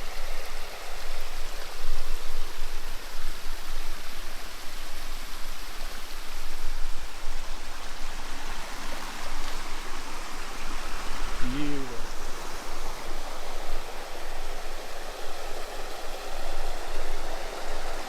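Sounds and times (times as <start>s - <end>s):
water cascading over rocks: 0.0s - 18.0s.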